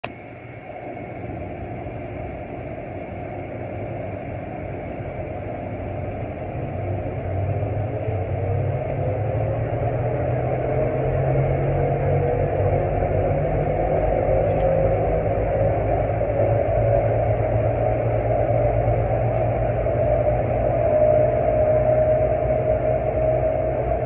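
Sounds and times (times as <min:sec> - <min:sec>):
faint rising whine: 0:00.0 - 0:24.0
hum of motors and tyres: 0:00.0 - 0:24.0.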